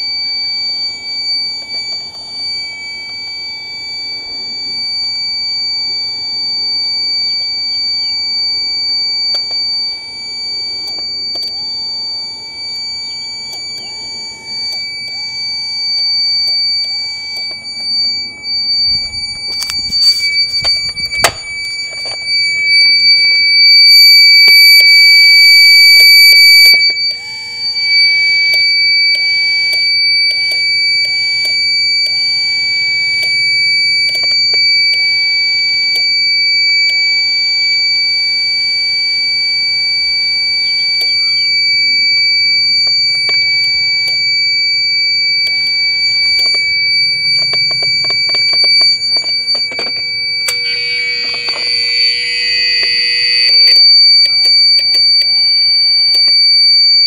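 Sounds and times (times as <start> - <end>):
high-pitched alarm buzzer: 0.0 - 57.0.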